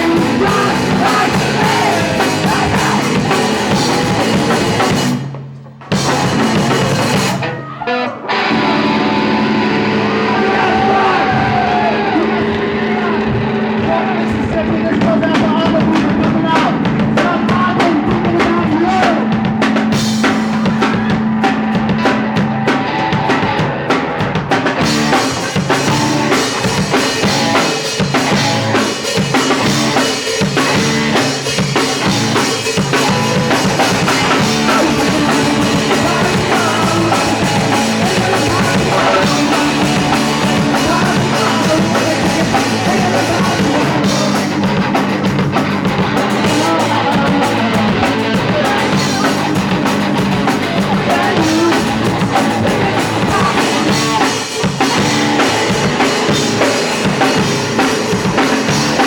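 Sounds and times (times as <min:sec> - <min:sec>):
loud driving drum kit: 0:00.0 - 0:59.0
punk rock band playing live: 0:00.0 - 0:59.0.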